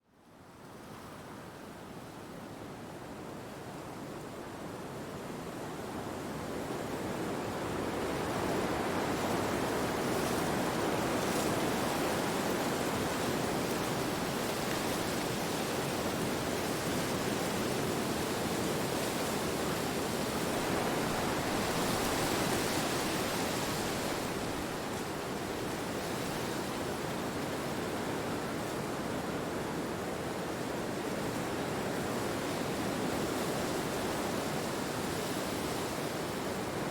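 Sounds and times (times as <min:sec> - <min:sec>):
wind rushing through trees: 0:00.5 - 0:36.9.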